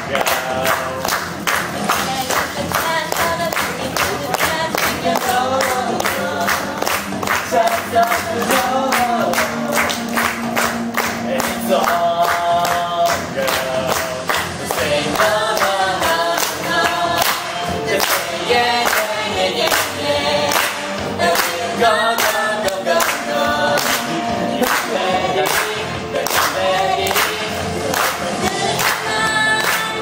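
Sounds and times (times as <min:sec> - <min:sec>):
man and woman singing: 0:00.0 - 0:10.4, 0:11.0 - 0:30.0
backing track with steady beat: 0:00.0 - 0:30.0.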